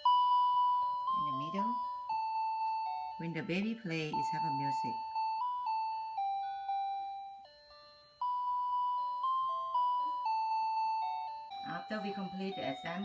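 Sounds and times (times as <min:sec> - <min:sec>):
electronic beeping toy melody: 0:00.0 - 0:13.0.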